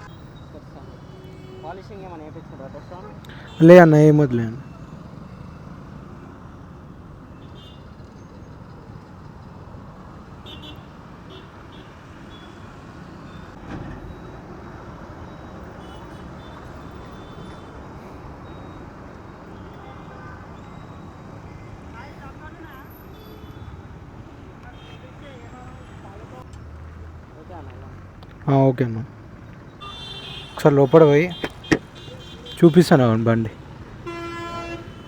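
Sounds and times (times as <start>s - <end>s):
road traffic noise: 0.0s - 35.0s.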